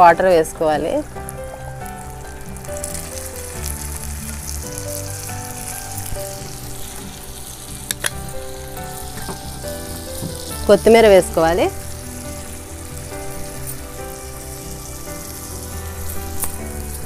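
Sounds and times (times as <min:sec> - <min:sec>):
curry sizzling and bubbling in pan: 0:00.0 - 0:17.0
quiet background music: 0:00.0 - 0:17.0.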